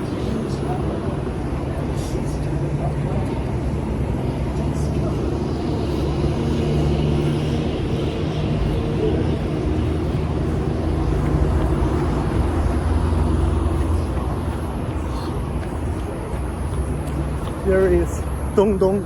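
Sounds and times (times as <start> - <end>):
low engine drone: 0.0 - 19.0
road traffic noise: 0.0 - 19.0.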